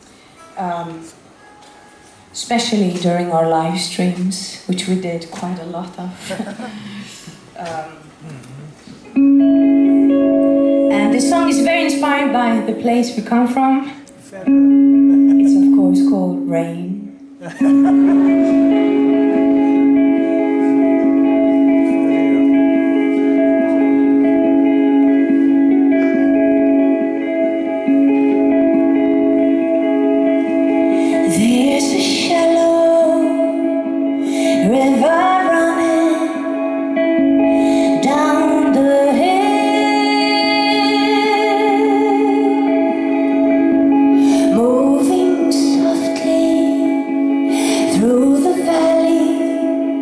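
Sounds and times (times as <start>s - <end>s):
electric guitar sustained notes: 9.1s - 50.0s.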